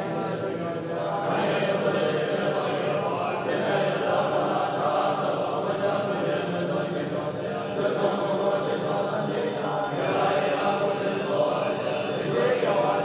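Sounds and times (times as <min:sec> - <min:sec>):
men chanting prayers: 0:00.0 - 0:13.0.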